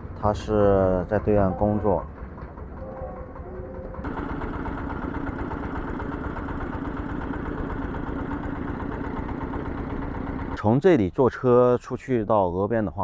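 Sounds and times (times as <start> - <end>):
engine running steadily: 0.0 - 11.1.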